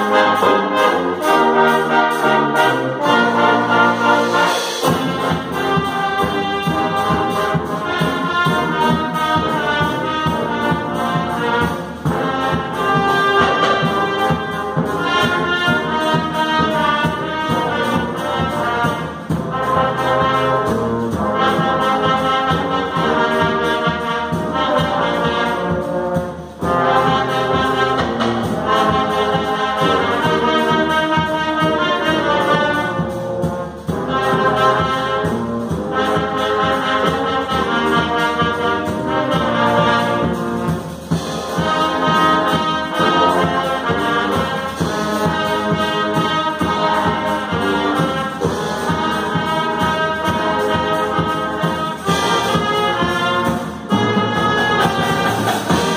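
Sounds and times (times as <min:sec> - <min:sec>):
wind band playing: 0:00.0 - 0:55.9.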